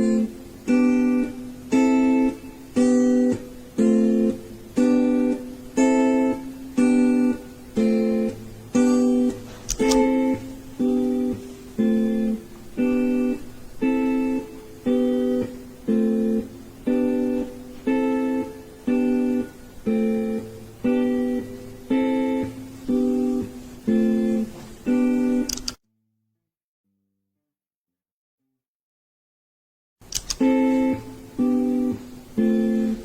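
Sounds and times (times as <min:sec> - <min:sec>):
acoustic guitar strumming: 0:00.0 - 0:25.6, 0:30.4 - 0:33.0.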